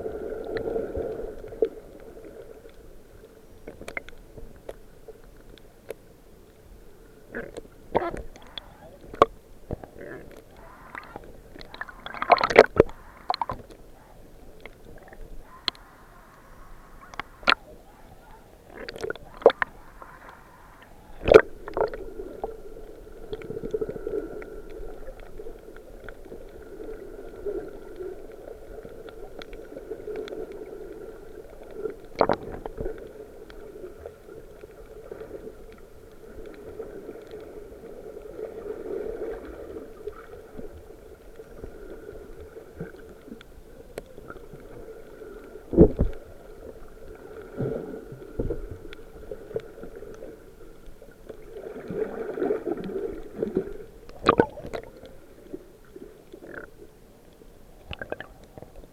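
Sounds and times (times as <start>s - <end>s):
underwater gurgling murmur: 6.7s - 58.9s.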